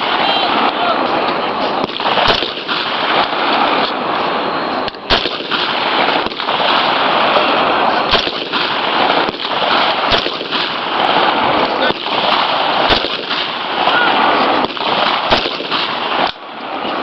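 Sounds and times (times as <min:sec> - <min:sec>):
steady rushing noise: 0:00.0 - 0:17.0
rifle shots: 0:01.8 - 0:17.0.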